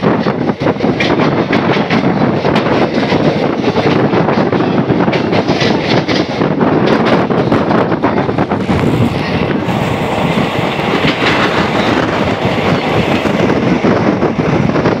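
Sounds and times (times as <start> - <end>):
train rumble: 0.0 - 15.0
wheels clicking over rail joints: 0.0 - 15.0.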